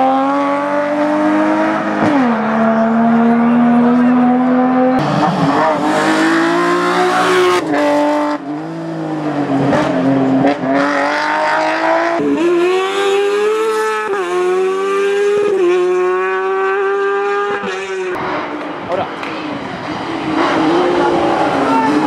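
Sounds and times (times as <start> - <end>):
race car engines at high revs: 0.0 - 22.0.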